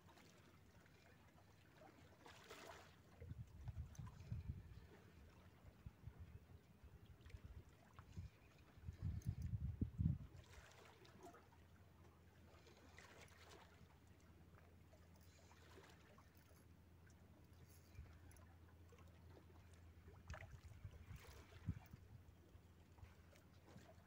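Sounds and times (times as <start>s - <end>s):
wind and sea rumble: 2.9s - 24.0s.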